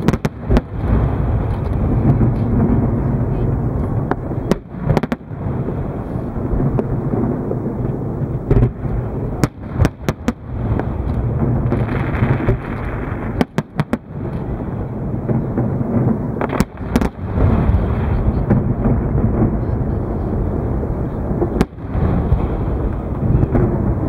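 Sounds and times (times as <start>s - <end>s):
sharp firework cracks: 0.0s - 20.0s, 21.3s - 24.0s
fireworks booming: 0.0s - 24.0s.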